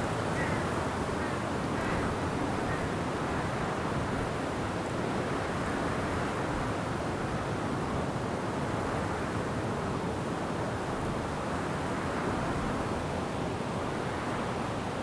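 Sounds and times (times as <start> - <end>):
wind blowing through trees: 0.0 - 15.0.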